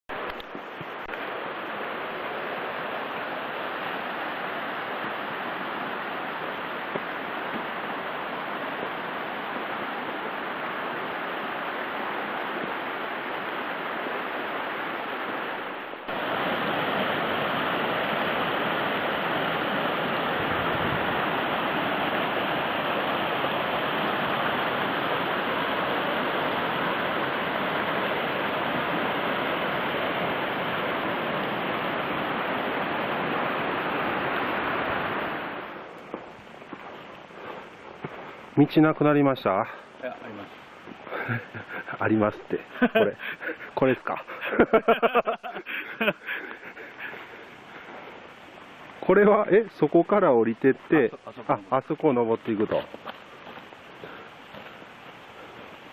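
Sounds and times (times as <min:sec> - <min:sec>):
mountain stream rushing: 0:00.1 - 0:55.9.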